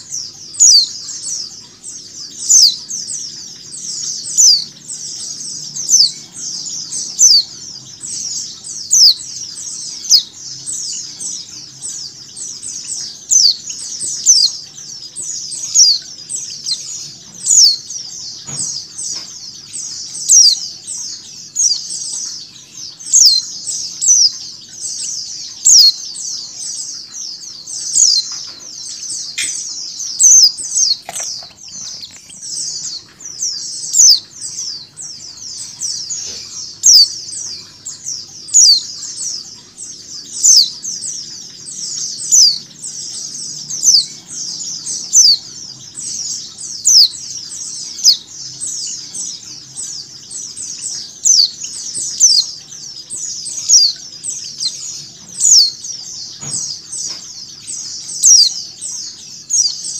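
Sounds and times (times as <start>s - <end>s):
birds chirping: 0.0s - 59.9s
loud bird calls: 0.0s - 59.9s.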